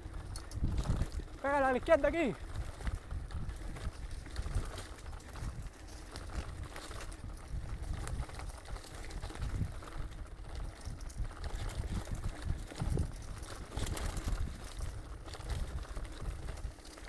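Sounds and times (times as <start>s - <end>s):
wind on microphone: 0.0s - 16.8s
bike clicks and rattles: 0.0s - 17.0s
bike tyres rumbling on dirt: 0.0s - 17.0s.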